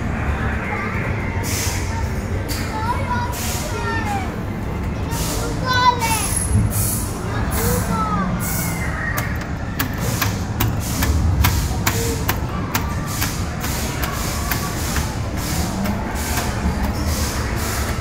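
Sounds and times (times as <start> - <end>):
low rumble of machines: 0.0 - 18.0.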